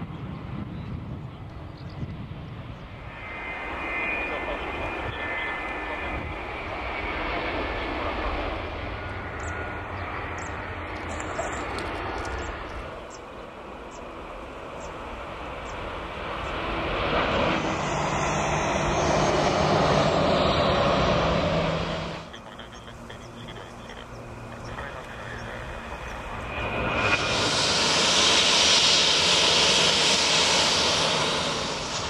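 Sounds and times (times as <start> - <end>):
jet engines at takeoff power: 0.0 - 32.0.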